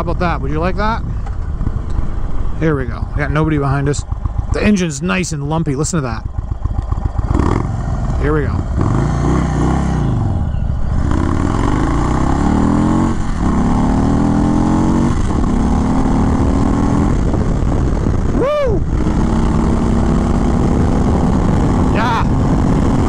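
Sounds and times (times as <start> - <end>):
motorcycle engine accelerating: 0.0 - 23.0
wind rushing over microphone: 0.0 - 23.0.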